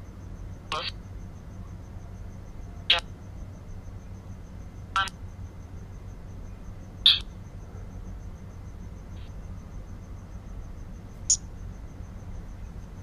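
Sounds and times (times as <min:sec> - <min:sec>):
cricket chirping: 0:00.0 - 0:13.0
steady low hum: 0:00.0 - 0:13.0.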